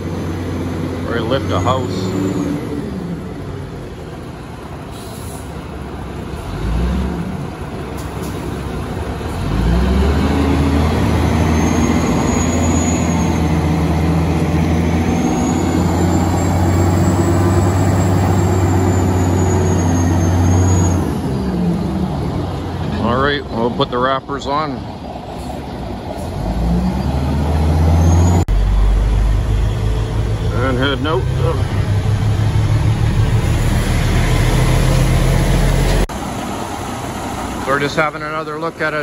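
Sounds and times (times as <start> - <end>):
diesel engine revving under load: 0.0 - 39.0.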